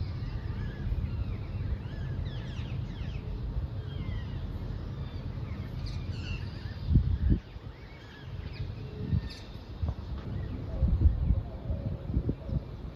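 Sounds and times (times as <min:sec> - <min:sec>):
small birds chirping: 0:00.0 - 0:12.9
steady low rumble: 0:00.0 - 0:12.9.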